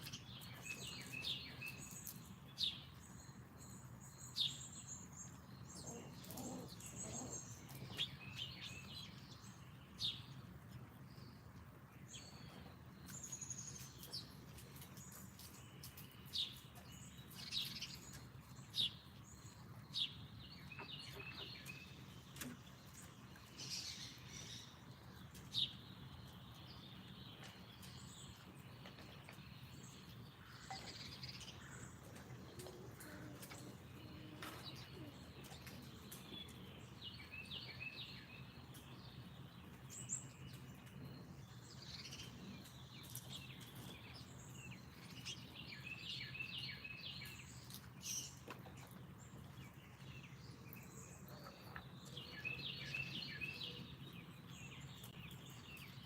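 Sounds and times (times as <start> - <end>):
low background hum: 0.0 - 56.0
songbirds chirping: 0.0 - 56.0.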